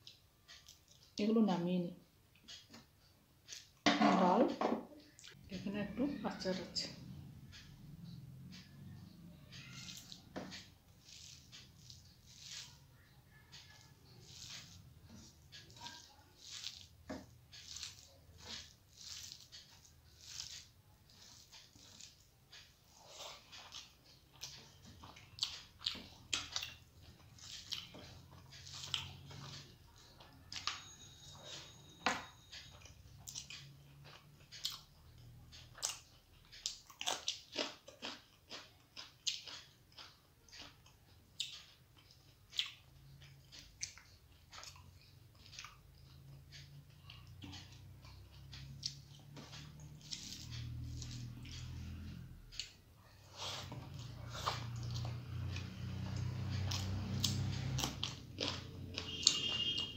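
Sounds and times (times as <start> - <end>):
person chewing: 0.0 - 1.2, 7.5 - 31.7, 32.5 - 59.9.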